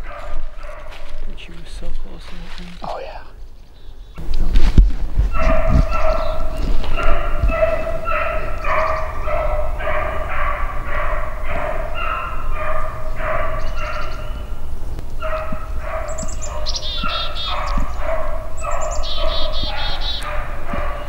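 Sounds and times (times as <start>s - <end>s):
hounds baying: 0.0s - 1.2s, 5.3s - 21.0s.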